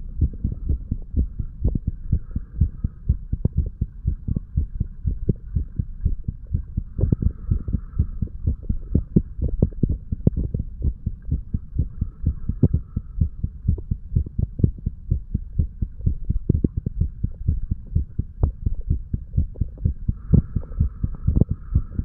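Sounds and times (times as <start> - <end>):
heartbeat thumps: 0.0 - 22.0.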